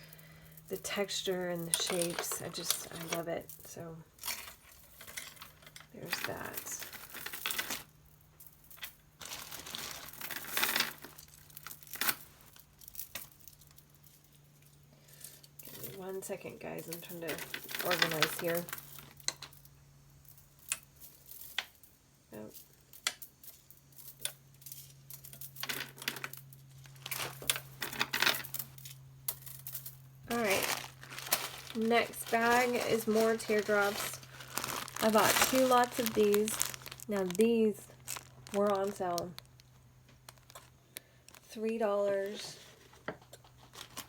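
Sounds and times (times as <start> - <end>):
plastic bags crinkling: 0.0 - 19.7, 22.3 - 42.9, 43.5 - 44.0.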